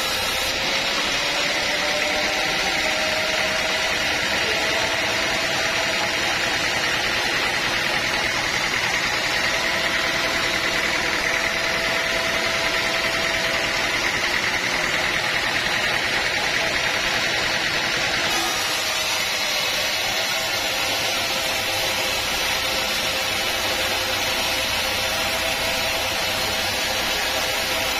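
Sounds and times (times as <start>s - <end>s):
sawmill machinery running: 0.0s - 27.9s.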